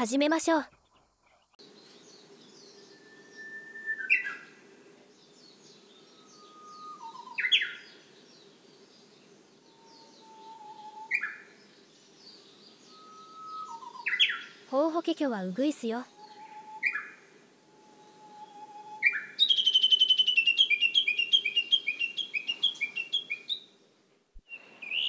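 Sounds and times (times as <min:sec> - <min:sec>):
faint small birds chirping: 0:00.0 - 0:25.0
bush warbler singing: 0:00.3 - 0:23.8, 0:24.4 - 0:25.0.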